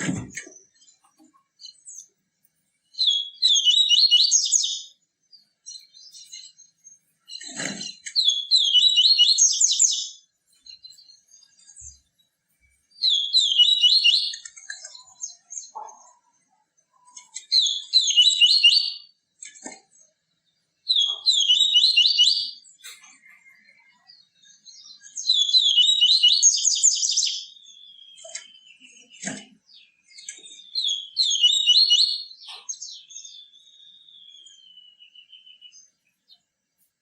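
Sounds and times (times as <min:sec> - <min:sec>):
bird twittering song: 0:00.0 - 0:37.0.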